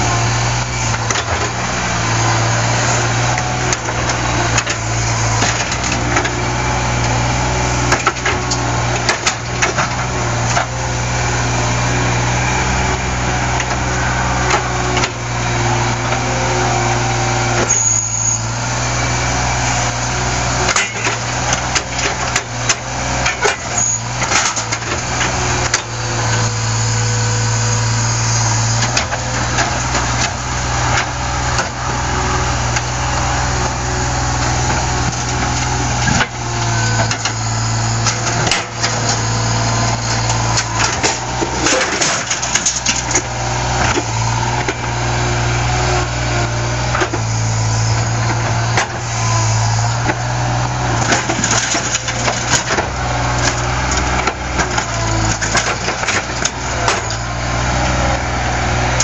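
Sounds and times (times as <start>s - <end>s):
loader engine running: 0.0s - 59.0s.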